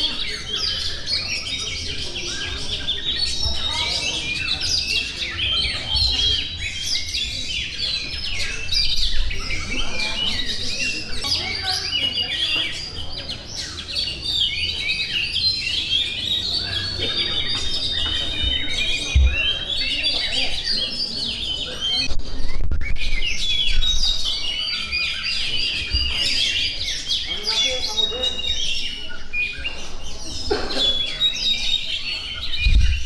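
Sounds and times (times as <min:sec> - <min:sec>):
songbirds singing: 0:00.0 - 0:33.0.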